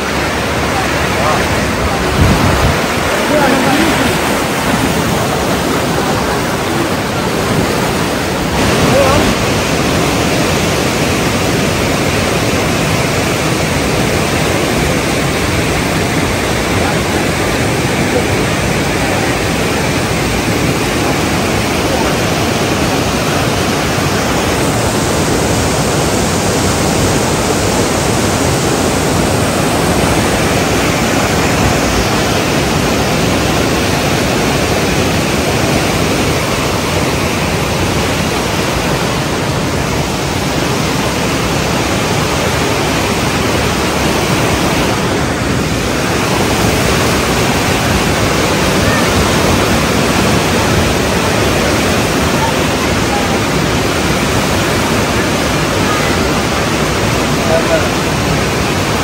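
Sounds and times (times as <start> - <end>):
whitewater rushing: 0.0 - 59.0.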